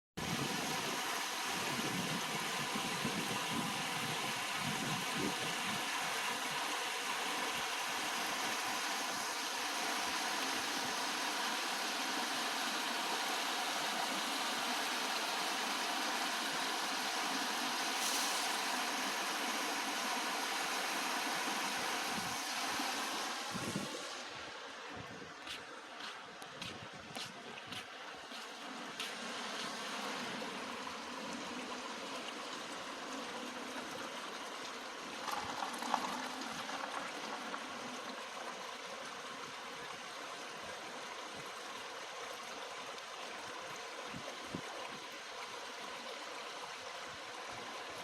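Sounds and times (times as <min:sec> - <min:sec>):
stream rushing over rocks: 0:00.2 - 0:26.7, 0:27.6 - 0:48.0.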